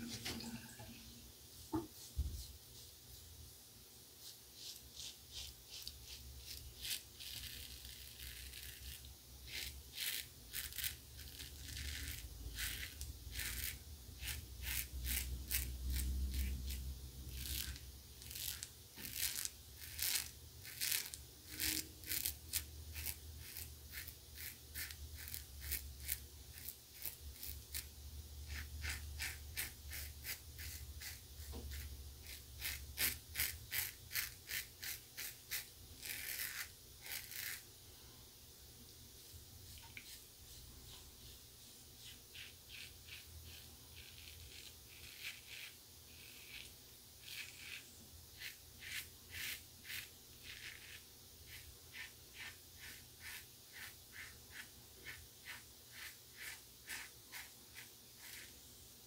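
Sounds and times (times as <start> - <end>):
razor scraping stubble: 4.6 - 27.9, 28.5 - 37.6, 42.0 - 58.5.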